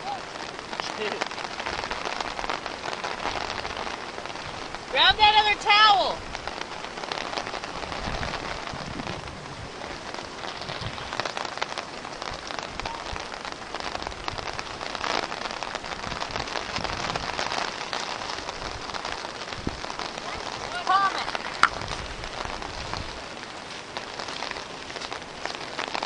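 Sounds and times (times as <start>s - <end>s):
rain falling on a lake: 0.0s - 26.0s.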